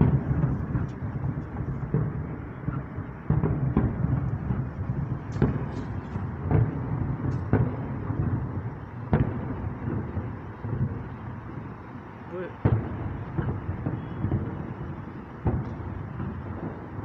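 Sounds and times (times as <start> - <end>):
distant fireworks booms and cracks: 0.0 - 17.0.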